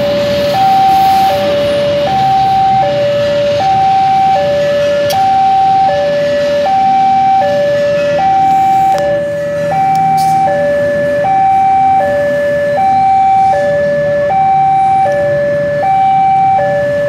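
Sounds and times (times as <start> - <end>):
two-tone warning alarm: 0.0 - 17.0.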